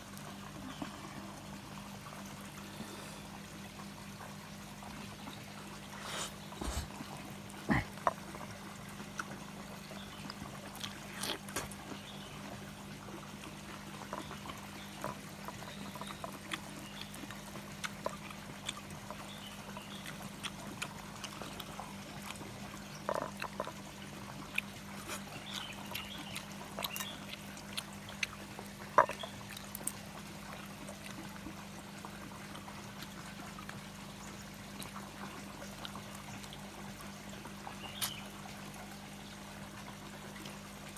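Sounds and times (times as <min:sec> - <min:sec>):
constant low hum: 0:00.0 - 0:40.9
water trickling: 0:00.0 - 0:40.9.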